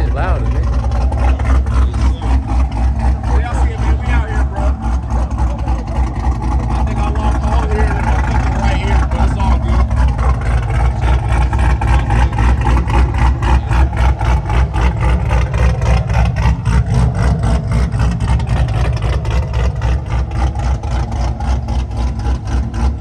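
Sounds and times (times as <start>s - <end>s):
car engine idling loudly: 0.0s - 23.0s.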